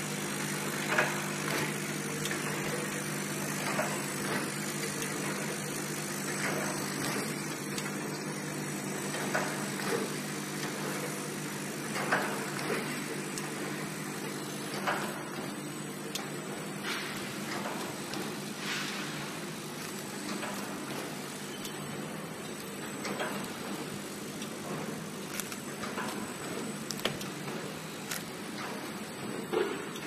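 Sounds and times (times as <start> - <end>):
wrapping machine motor hum: 0.0 - 30.0
machine mechanism clicks: 0.6 - 30.0.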